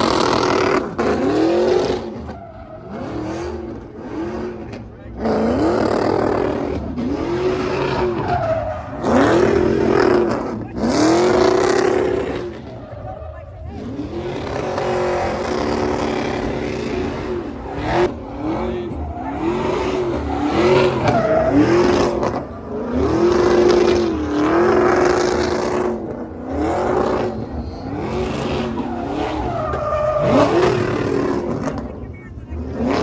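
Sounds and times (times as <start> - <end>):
vehicle engine revving: 0.0 - 33.0.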